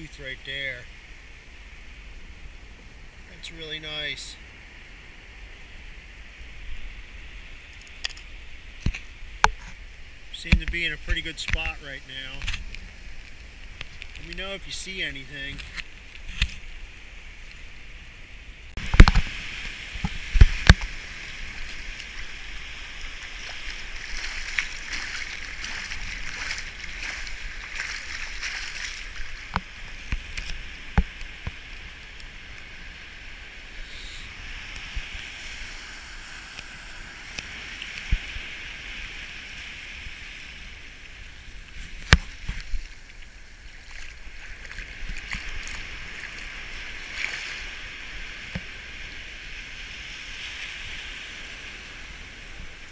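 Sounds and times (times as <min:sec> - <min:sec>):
surf washing over sand: 0:00.0 - 0:52.9.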